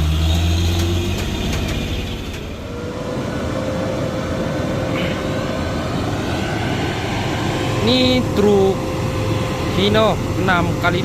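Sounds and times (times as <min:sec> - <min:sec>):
truck diesel engine under load: 0:00.0 - 0:11.0
thin steady whine: 0:01.2 - 0:11.0.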